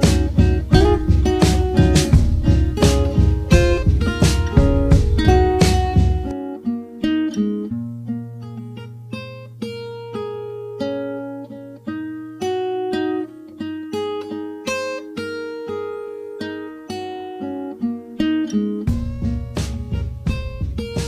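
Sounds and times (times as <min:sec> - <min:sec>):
guitar picking single notes: 0:00.0 - 0:15.2, 0:17.0 - 0:21.0.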